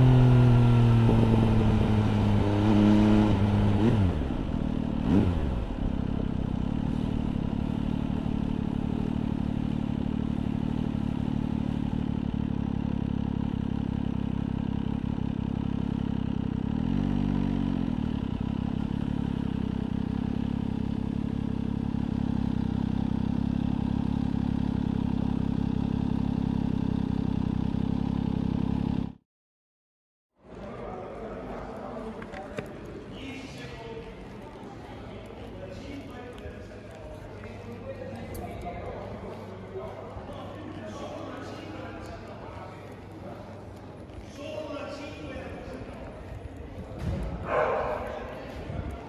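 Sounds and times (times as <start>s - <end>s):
motorcycle engine idling and revving: 0.0s - 29.2s, 32.0s - 49.0s.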